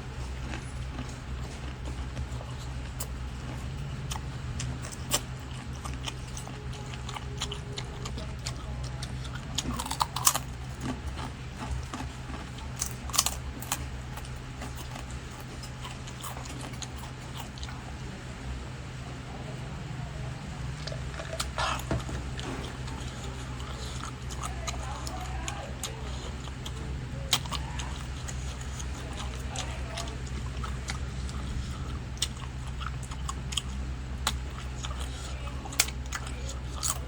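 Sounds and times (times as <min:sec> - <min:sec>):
person chewing food: 0:00.0 - 0:18.0, 0:20.6 - 0:37.0
steady low hum: 0:00.0 - 0:37.0.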